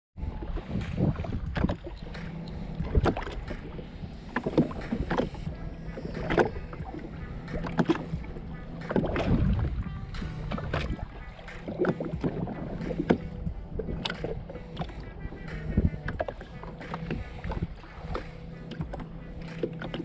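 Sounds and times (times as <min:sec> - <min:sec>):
low rumble: 0:00.2 - 0:19.8
waves slapping against hull: 0:00.2 - 0:20.0.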